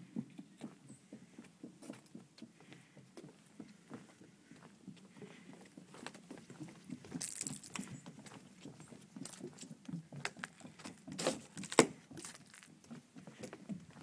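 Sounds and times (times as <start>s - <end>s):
footsteps on wooden boardwalk: 0.0s - 14.0s.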